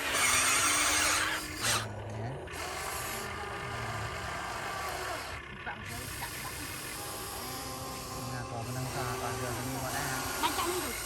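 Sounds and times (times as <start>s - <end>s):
small electric motors whirring: 0.0s - 11.0s.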